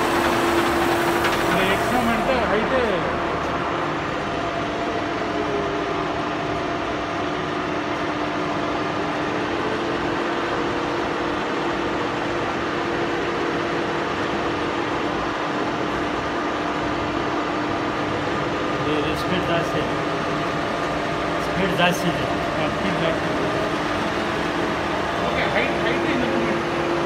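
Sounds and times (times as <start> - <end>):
boring machine humming: 0.0 - 27.0.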